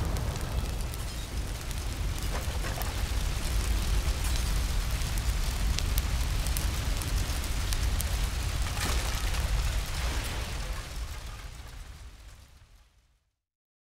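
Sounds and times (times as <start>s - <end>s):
fire hiss: 0.0s - 12.8s
deep fire rumble: 0.0s - 13.2s
fire crackling and popping: 0.0s - 13.3s.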